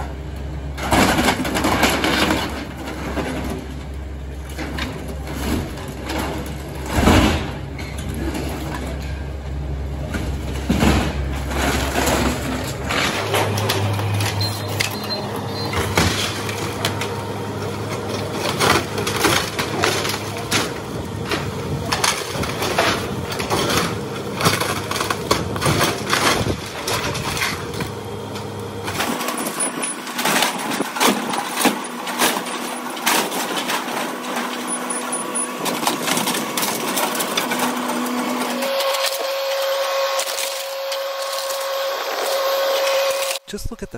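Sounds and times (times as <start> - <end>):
excavator diesel engine drone: 0.0 - 43.9
wood splintering and crashing: 0.8 - 9.2, 9.9 - 43.4.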